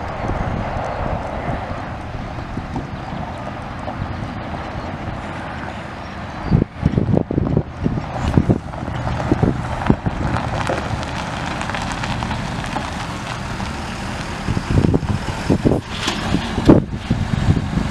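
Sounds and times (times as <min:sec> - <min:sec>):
wind buffeting microphone: 0:00.0 - 0:17.9
diesel engine idling: 0:01.5 - 0:17.9.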